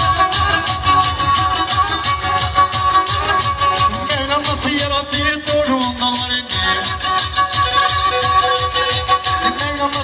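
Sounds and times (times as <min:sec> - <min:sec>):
instrumental dance music: 0:00.0 - 0:10.0.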